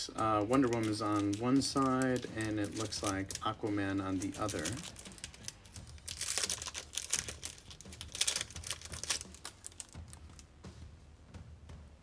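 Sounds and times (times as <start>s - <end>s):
plastic packaging crinkling: 0.4s - 10.4s.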